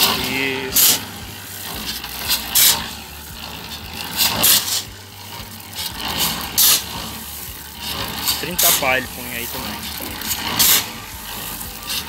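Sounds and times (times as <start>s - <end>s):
concrete mixer humming: 0.0s - 12.0s
shovel scraping gravel: 0.0s - 12.0s.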